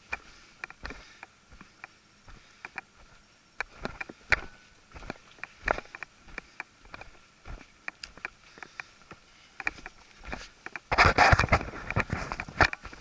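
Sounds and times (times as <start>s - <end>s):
footsteps crunching on gravel: 0.0s - 13.0s.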